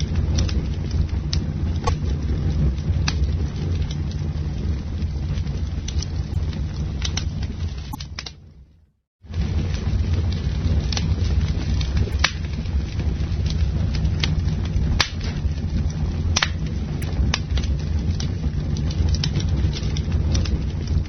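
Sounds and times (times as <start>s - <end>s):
burning wood crackling and popping: 0.0s - 21.0s
campfire flames rumbling: 0.0s - 21.0s.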